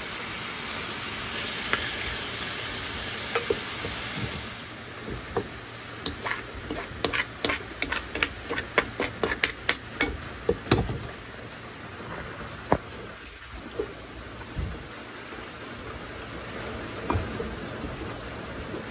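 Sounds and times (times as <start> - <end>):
corn frying hiss: 0.0 - 18.9.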